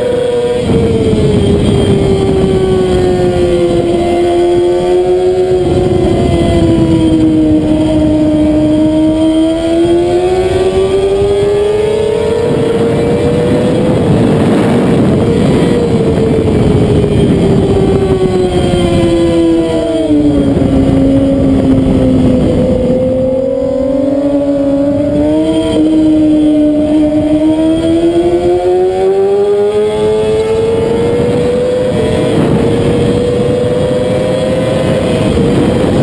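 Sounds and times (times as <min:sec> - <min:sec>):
motorcycle engine revving: 0:00.0 - 0:36.0
wind rushing past: 0:00.0 - 0:36.0.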